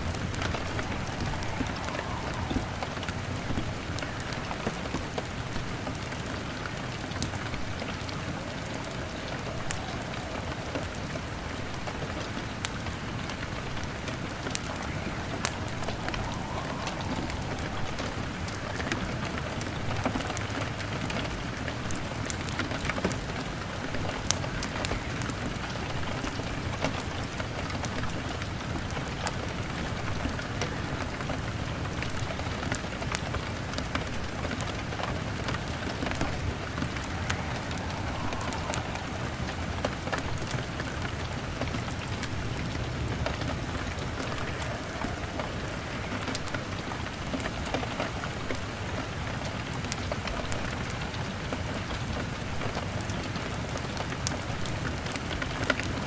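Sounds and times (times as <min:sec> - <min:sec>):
log fire crackling: 0:00.0 - 0:51.1
rain on a window: 0:00.0 - 0:56.0.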